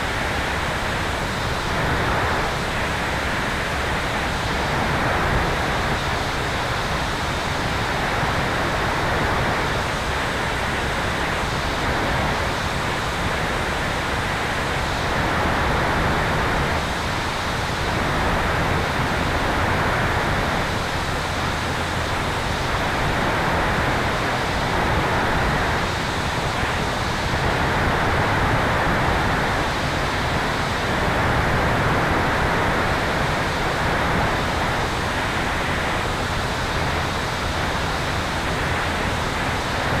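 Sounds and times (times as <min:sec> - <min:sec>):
airflow rushing around aircraft: 0:00.0 - 0:40.0.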